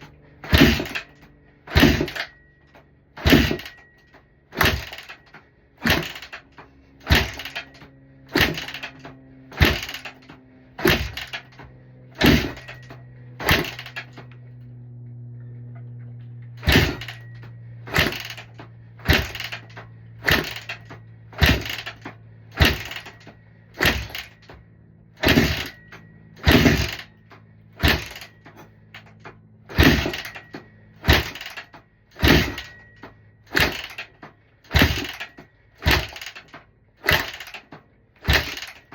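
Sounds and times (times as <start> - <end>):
dirt bike kick-start clanking: 0.4 - 38.9.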